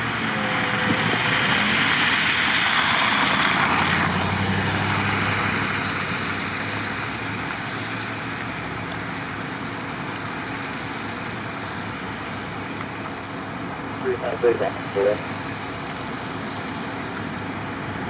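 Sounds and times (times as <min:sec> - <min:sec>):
road noise: 0:00.0 - 0:18.0
steady outdoor rumble: 0:00.0 - 0:18.0
vehicle engine: 0:00.0 - 0:18.0.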